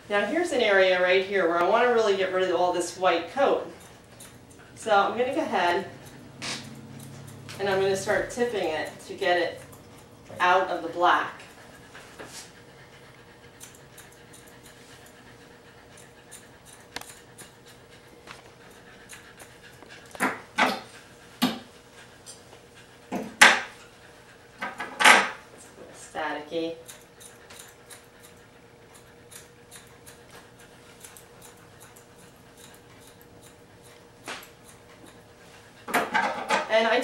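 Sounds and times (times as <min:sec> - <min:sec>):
shears snipping through fur: 0:00.5 - 0:12.6, 0:13.5 - 0:23.9, 0:24.6 - 0:37.0.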